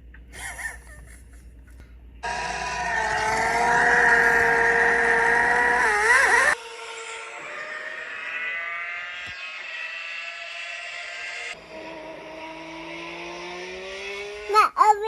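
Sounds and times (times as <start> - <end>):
racing car engine screaming: 2.2 - 14.5
quieter engine rising in pitch: 2.2 - 14.6.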